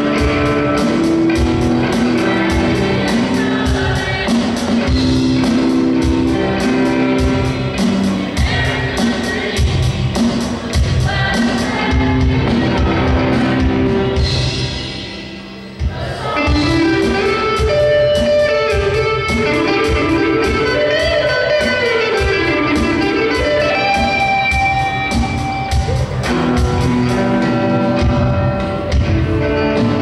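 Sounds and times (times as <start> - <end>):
electric guitar: 0.0 - 15.3, 16.3 - 30.0
voices singing: 0.0 - 27.5
drum kit beat: 0.0 - 30.0.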